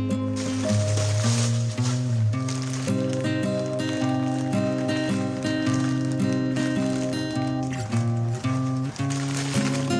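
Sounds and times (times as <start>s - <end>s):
faint hissy rustle: 0.4s - 9.9s.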